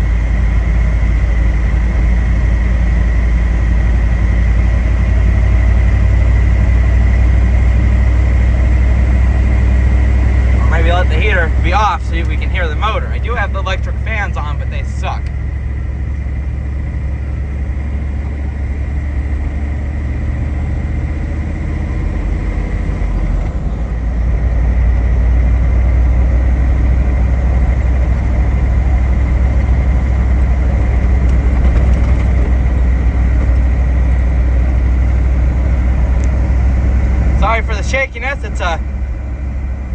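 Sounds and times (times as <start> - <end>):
diesel truck engine running: 0.0 - 39.9
steady high whine: 0.0 - 39.9.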